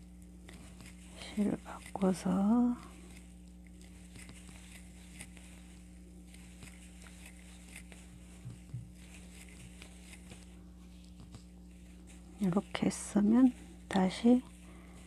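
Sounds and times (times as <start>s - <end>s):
low electrical hum: 0.0s - 15.0s
soft yarn rustling: 0.5s - 15.0s.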